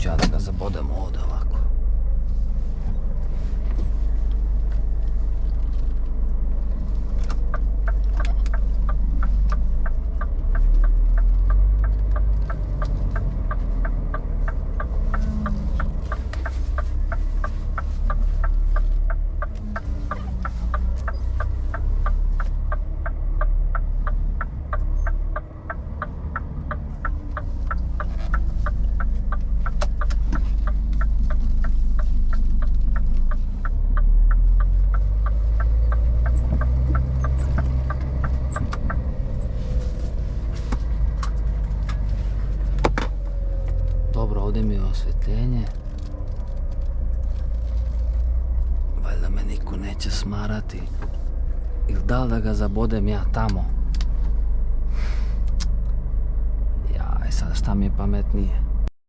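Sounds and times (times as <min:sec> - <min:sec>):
diesel truck engine running: 0:00.0 - 0:58.9
regular ticking: 0:04.2 - 0:54.8.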